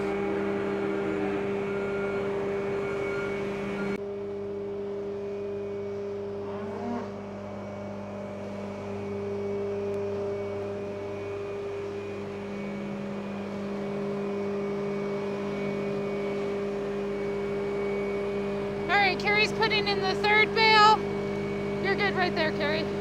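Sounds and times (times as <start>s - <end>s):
diesel engine running: 0.0s - 4.0s, 4.8s - 23.0s.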